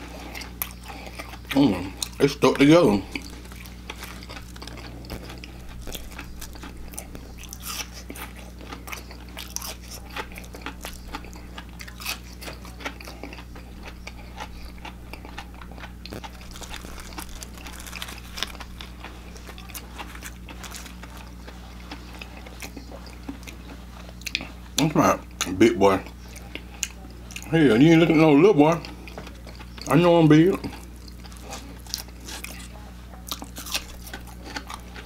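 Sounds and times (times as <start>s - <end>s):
crunchy chewing: 0.0s - 35.0s.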